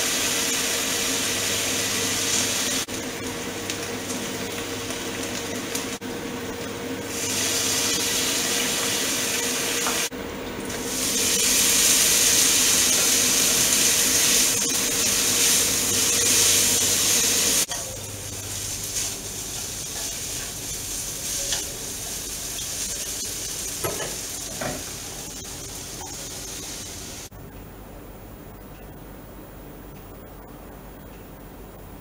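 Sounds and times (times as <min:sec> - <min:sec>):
noodles sizzling in a wok: 0:00.0 - 0:10.1, 0:10.7 - 0:27.3.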